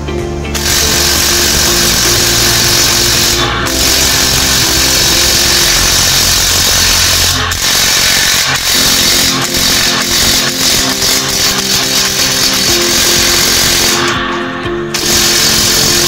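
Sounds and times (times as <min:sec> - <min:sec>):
impact wrench hammering: 0:00.6 - 0:16.0.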